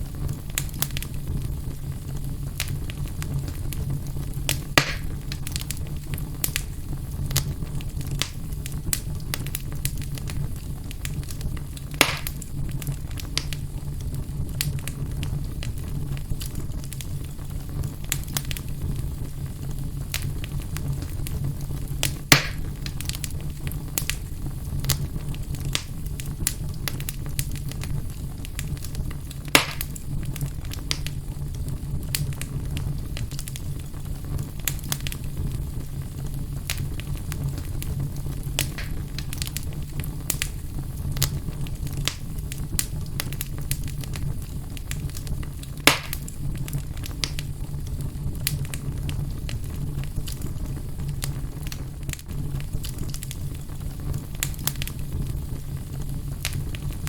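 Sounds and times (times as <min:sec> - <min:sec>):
fire crackling in a fireplace: 0:00.0 - 0:57.0
loud fire pops: 0:00.0 - 0:57.0.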